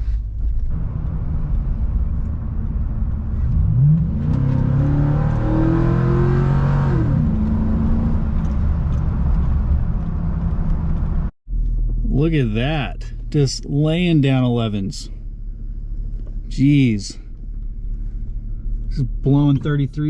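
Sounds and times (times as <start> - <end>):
car engine revving: 0.5 - 20.0.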